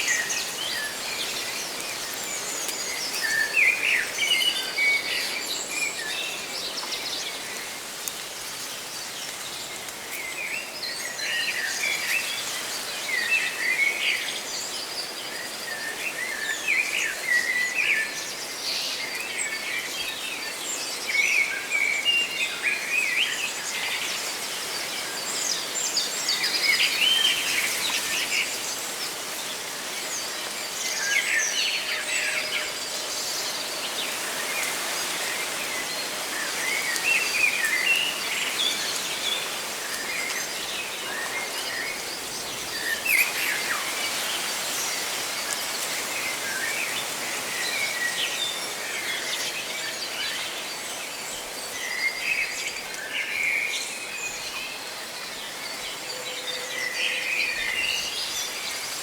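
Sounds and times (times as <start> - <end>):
leaves rustling in wind: 0.0 - 59.0
songbirds chirping: 0.0 - 59.0.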